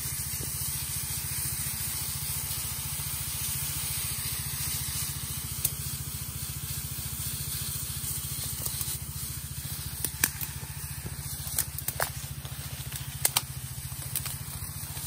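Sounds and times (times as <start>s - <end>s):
small petrol engine running: 0.0s - 15.0s
spray gun hissing: 0.0s - 15.0s.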